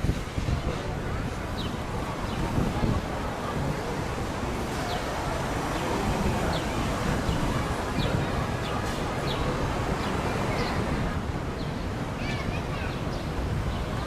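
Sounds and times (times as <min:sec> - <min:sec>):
wind and water roaring: 0:00.0 - 0:14.0.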